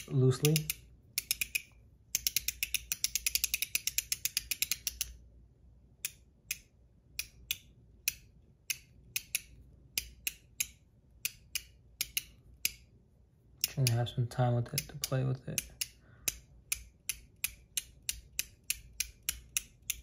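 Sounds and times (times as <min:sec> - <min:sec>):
metal fidget toy clicking: 0:00.0 - 0:05.2, 0:06.0 - 0:12.8, 0:13.6 - 0:20.0.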